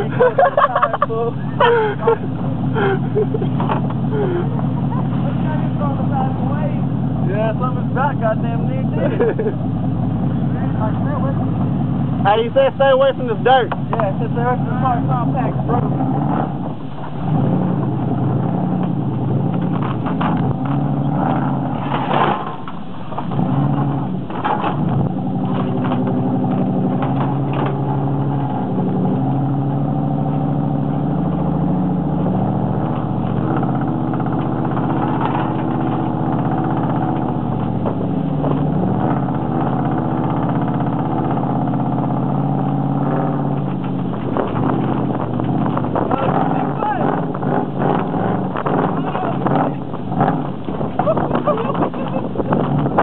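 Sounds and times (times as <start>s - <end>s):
engine knocks: 0.0s - 53.0s
engine revving: 0.0s - 53.0s.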